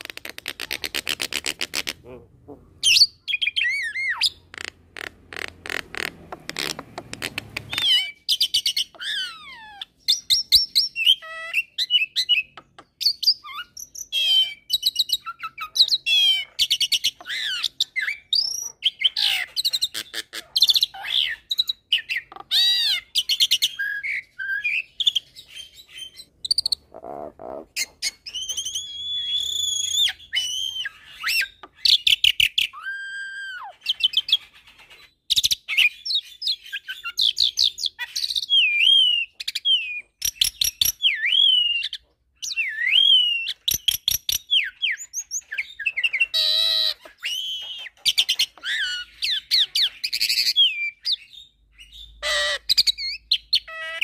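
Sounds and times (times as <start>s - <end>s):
starling singing: 0.1s - 54.0s.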